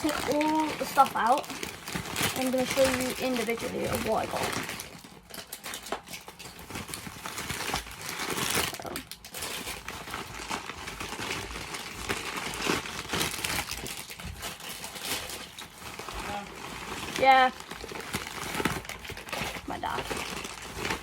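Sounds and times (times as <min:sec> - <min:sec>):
packaging crinkling and rustling: 0:00.0 - 0:21.0.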